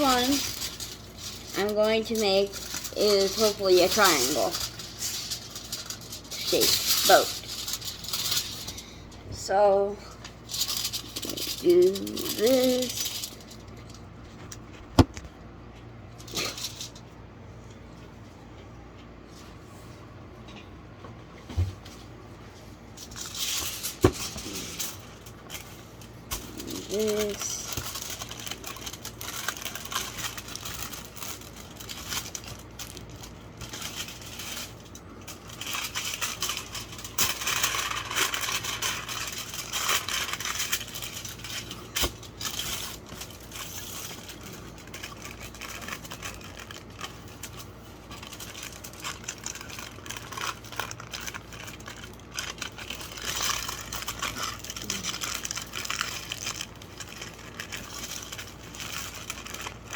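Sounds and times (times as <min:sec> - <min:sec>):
aluminum foil crumpling: 0:00.0 - 0:14.9, 0:16.2 - 0:17.2, 0:22.6 - 0:59.9.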